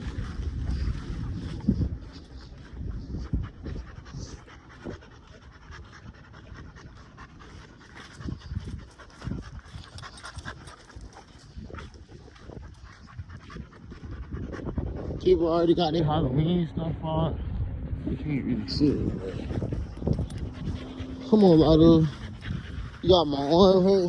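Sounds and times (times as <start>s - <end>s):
dog panting: 0.0s - 24.0s.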